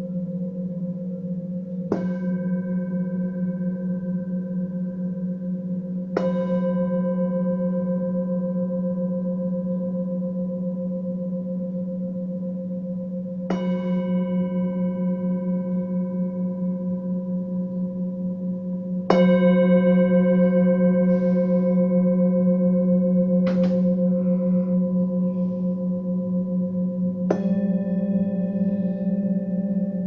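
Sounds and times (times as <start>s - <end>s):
singing bowls ringing: 0.0s - 30.0s.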